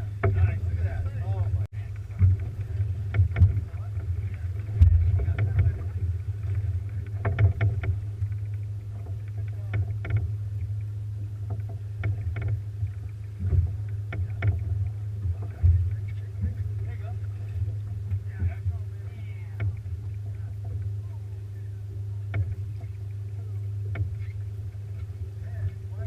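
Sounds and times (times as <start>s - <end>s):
boat engine humming: 0.0s - 26.0s
knocks and clicks on boat: 0.0s - 26.0s.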